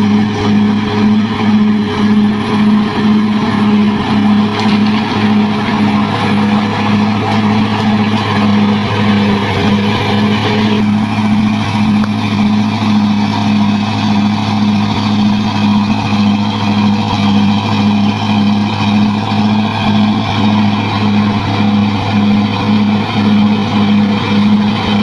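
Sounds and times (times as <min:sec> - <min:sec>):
bulldozer diesel engine throbbing: 0:00.0 - 0:25.0.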